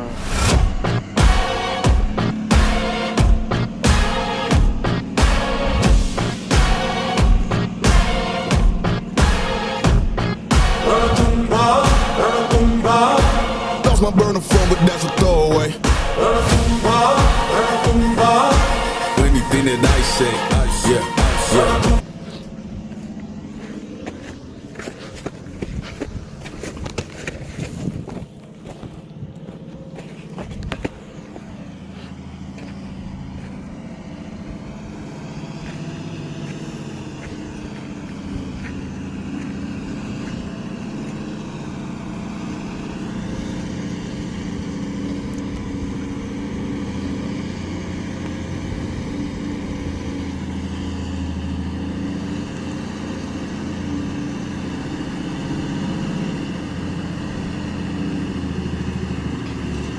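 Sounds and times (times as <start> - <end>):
heavy truck engine running: 0.0 - 59.9.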